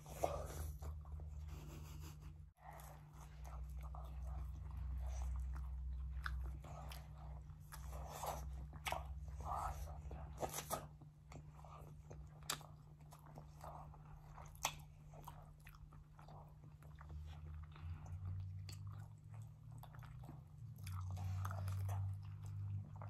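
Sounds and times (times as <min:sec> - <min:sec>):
people chewing food: 0:00.0 - 0:23.0.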